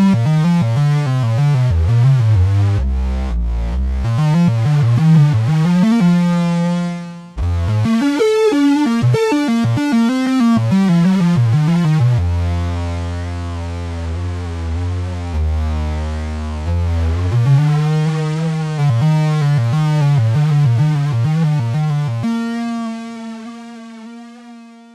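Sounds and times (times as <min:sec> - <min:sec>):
long steady low synth note: 0:01.1 - 0:24.9
synth short bending notes: 0:01.6 - 0:24.1.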